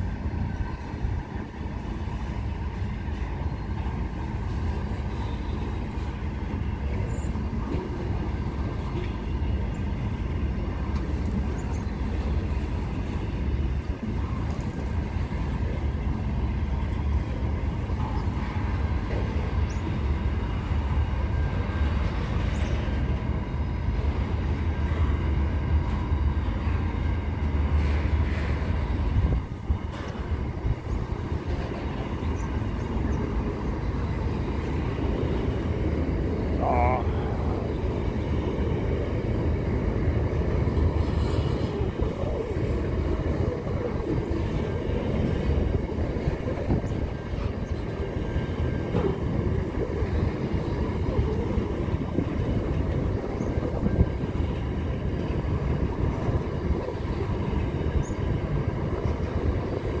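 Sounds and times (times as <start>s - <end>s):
freight train wheels rumbling: 0.0s - 60.0s.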